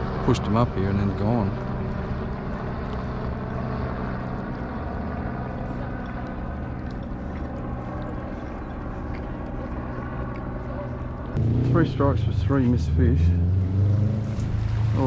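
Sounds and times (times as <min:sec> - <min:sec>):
motorboat engine drone: 0:00.0 - 0:15.0.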